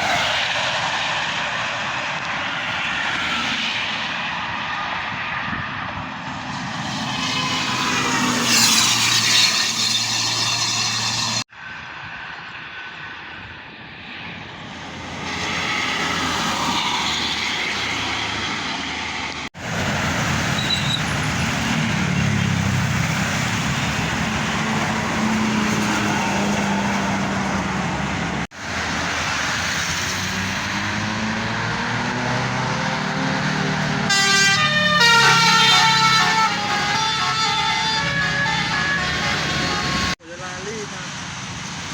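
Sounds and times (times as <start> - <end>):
highway traffic passing at speed: 0.0 - 41.9.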